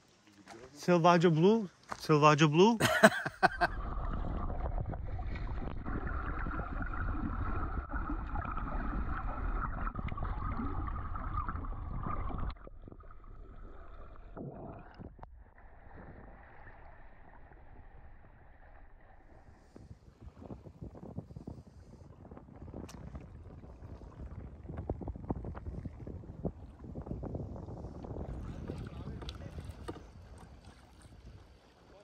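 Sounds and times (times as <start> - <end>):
wind: 0.0 - 8.4, 9.3 - 32.0
muffled underwater water rumble: 3.1 - 32.0.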